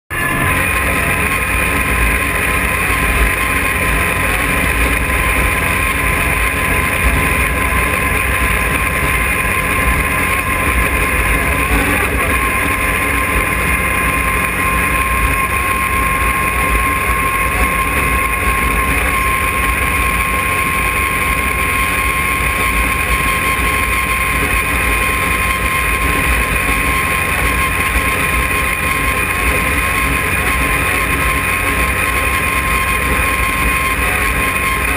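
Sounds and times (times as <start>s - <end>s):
road and wind rumble: 0.1s - 34.9s
vehicle engine drone with whine: 0.1s - 34.9s.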